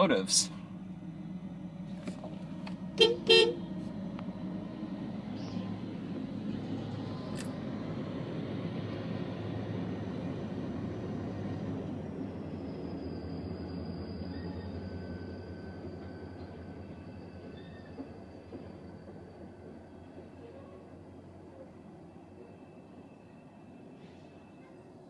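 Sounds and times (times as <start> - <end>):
train rolling on rails: 0.0 - 25.0.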